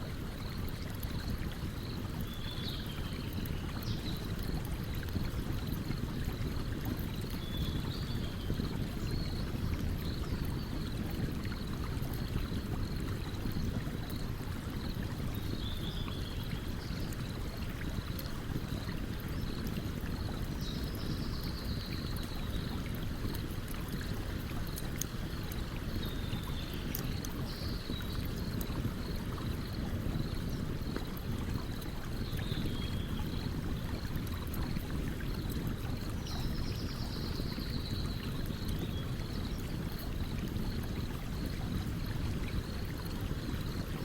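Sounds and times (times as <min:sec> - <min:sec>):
stream running: 0:00.0 - 0:44.0.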